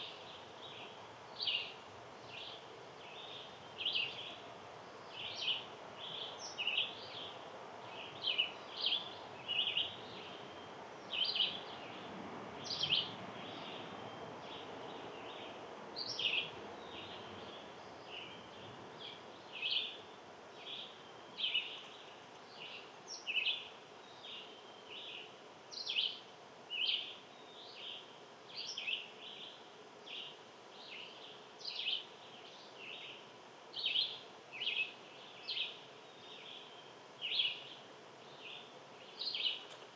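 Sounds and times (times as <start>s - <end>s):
low background noise: 0.0s - 39.9s
small birds chirping: 0.0s - 39.9s.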